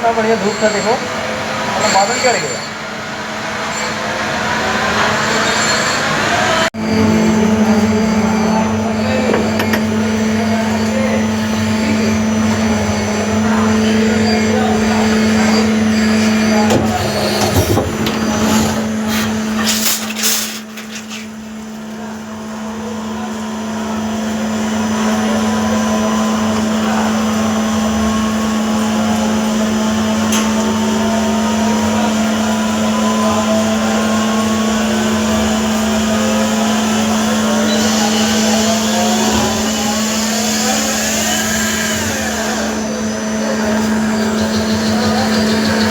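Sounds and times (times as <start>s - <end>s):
lathe motor hum and whine: 0.0s - 45.9s.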